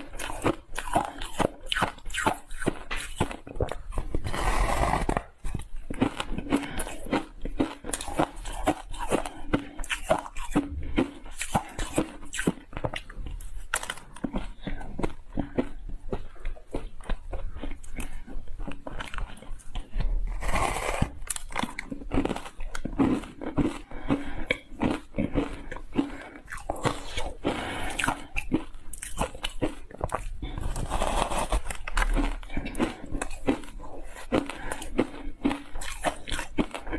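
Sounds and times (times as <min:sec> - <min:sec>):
ice crunching while chewed: 0:00.0 - 0:36.9.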